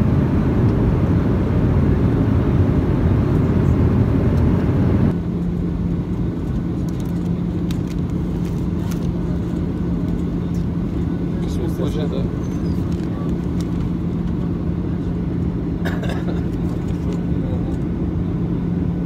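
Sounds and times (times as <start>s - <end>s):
steady low hum: 0.0s - 19.0s
vehicle rumble from inside: 0.0s - 19.0s.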